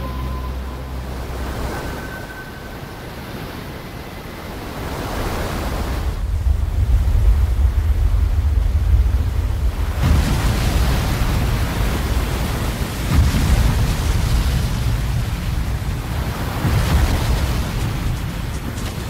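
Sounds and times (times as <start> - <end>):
deep rumble of big waves: 0.0 - 19.0
heavy ocean surf: 0.0 - 19.0
wind: 0.0 - 19.0.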